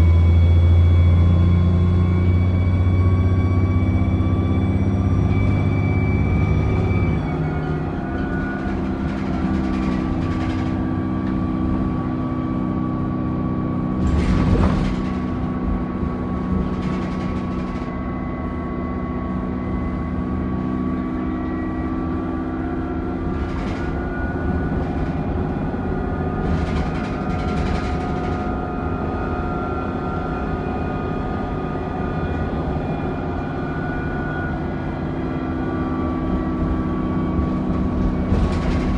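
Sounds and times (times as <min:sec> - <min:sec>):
bus diesel engine with turbo whine: 0:00.0 - 0:38.9.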